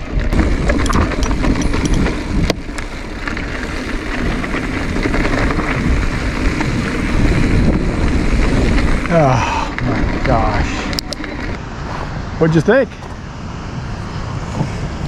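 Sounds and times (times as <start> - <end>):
tyre and trail noise: 0.0 - 15.0
wind buffeting microphone: 0.0 - 15.0.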